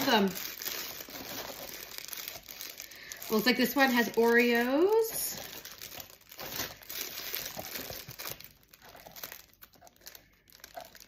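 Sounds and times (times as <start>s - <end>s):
cellophane bag crinkling: 0.0s - 11.0s.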